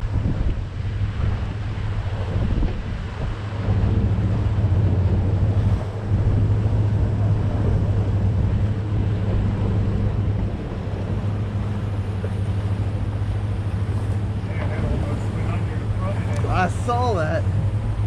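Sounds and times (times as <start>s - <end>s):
boat engine humming: 0.0s - 18.0s
sea water washing: 0.0s - 18.0s
wind buffeting microphone: 0.0s - 18.0s.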